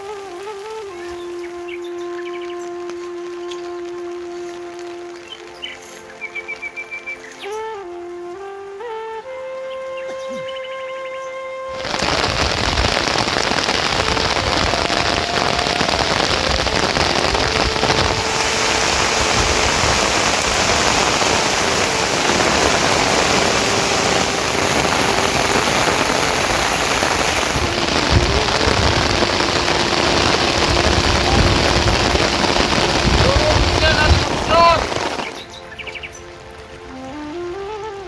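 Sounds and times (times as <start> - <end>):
heavy rain falling: 0.0 - 9.9, 11.5 - 38.0.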